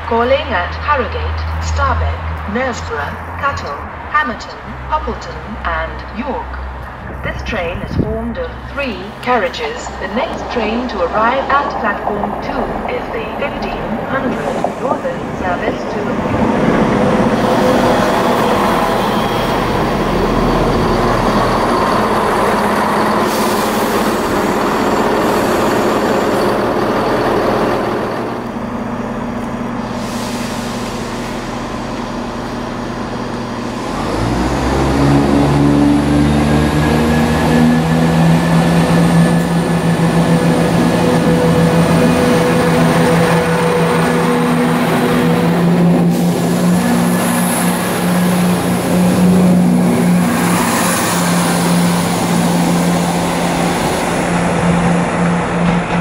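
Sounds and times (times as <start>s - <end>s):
diesel engines droning: 0.0s - 56.0s
train engines and wheels rumbling: 0.0s - 56.0s.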